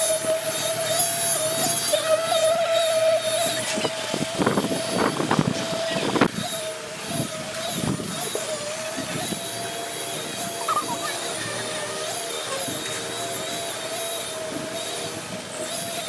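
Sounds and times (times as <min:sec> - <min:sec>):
concrete pump whining: 0:00.0 - 0:16.0
workers' voices: 0:00.0 - 0:16.0.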